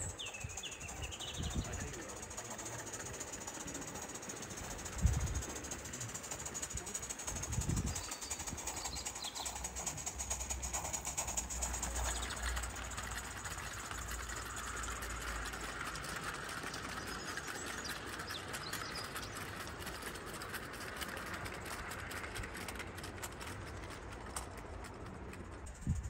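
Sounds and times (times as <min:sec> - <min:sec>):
model steam locomotive clatter: 0:00.0 - 0:26.0.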